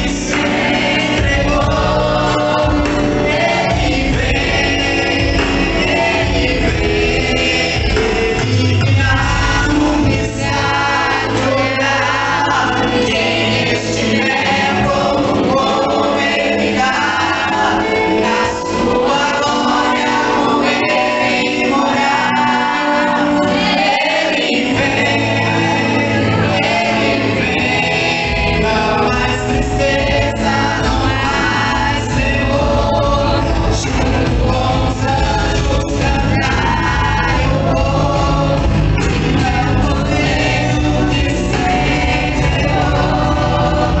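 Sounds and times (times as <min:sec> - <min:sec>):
choir singing gospel music: 0:00.0 - 0:44.0
instrumental accompaniment: 0:00.0 - 0:44.0.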